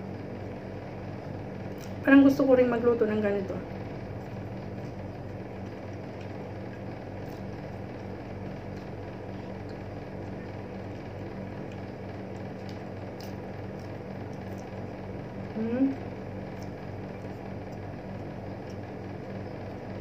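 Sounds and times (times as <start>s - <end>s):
small appliance motor humming: 0.0s - 20.0s.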